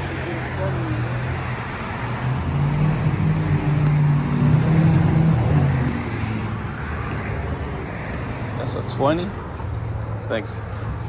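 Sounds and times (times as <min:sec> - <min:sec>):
motor vehicle engine humming: 0:00.0 - 0:11.0.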